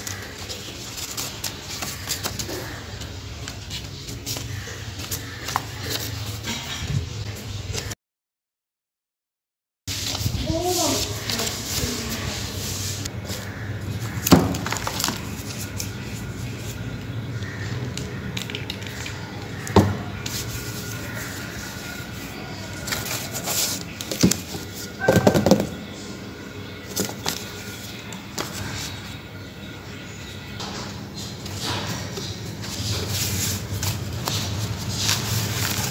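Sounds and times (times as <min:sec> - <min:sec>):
paper rustling: 0:00.0 - 0:06.5, 0:09.9 - 0:25.6, 0:26.8 - 0:29.1, 0:31.4 - 0:35.9.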